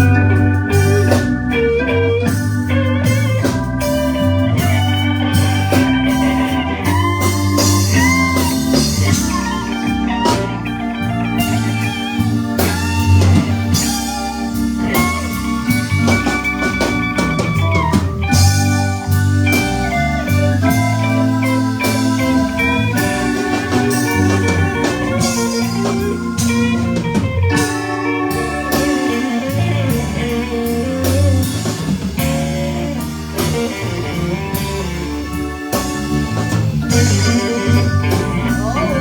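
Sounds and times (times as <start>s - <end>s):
lead guitar bending notes: 0.0s - 39.0s
live blues band playing: 0.0s - 39.0s.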